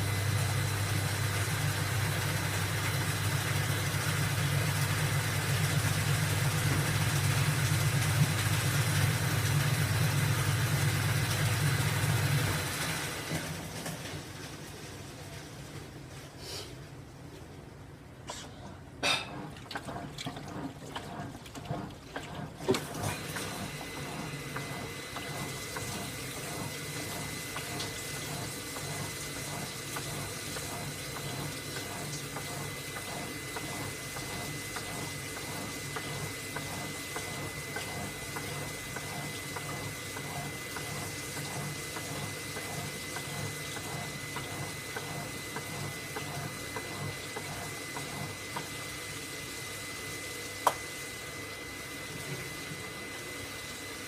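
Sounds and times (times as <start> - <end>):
water running into washing machine: 0.0 - 16.2, 18.6 - 54.0.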